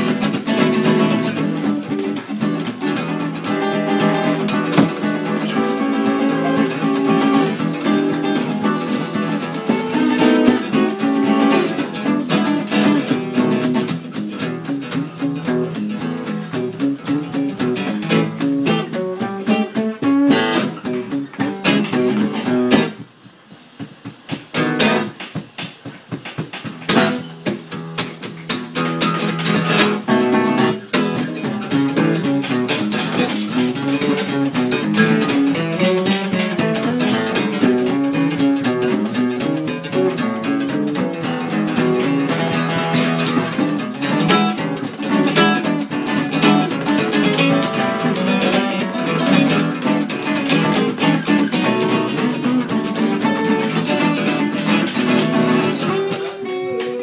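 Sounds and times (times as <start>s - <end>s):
acoustic guitar blues: 0.0s - 57.0s.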